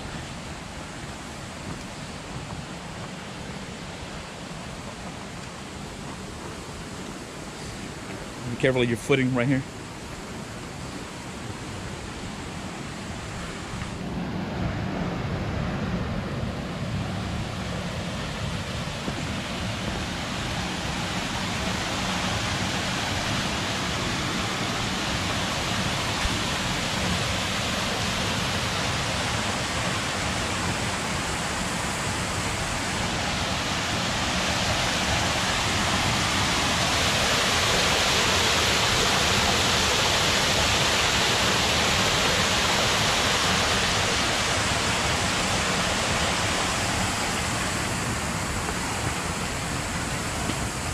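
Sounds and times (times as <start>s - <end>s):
water rushing down small waterfalls: 0.0s - 50.9s.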